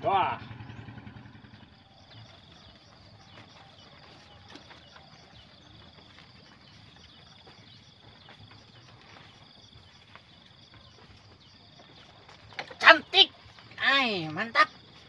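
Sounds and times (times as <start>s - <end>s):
insect trilling: 0.7s - 15.0s.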